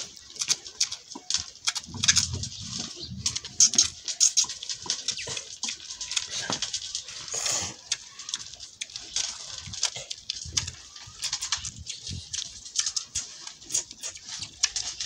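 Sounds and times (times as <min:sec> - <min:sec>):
animals suckling and smacking: 0:00.0 - 0:15.0.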